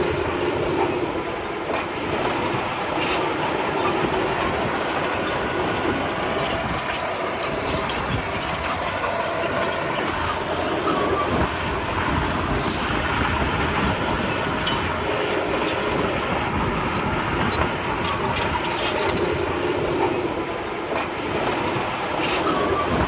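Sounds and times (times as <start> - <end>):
diesel machinery engine running: 0.0 - 23.0.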